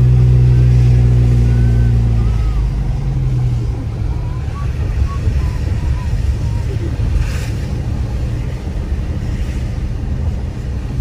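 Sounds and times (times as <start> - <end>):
car engine droning: 0.0 - 11.0
tyres rumbling on wet road: 0.0 - 11.0.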